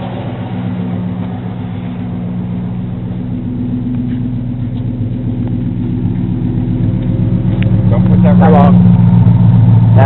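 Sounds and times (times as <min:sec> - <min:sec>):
engine idling with deep exhaust: 0:00.0 - 0:10.0.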